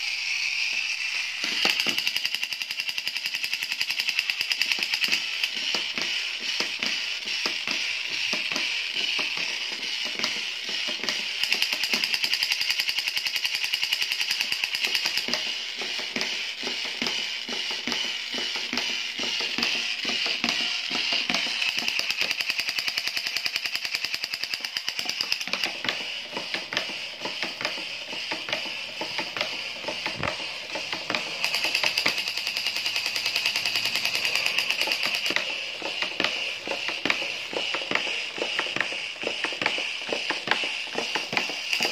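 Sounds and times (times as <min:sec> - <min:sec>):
toy machine-gun sound effect: 0:00.0 - 0:41.9.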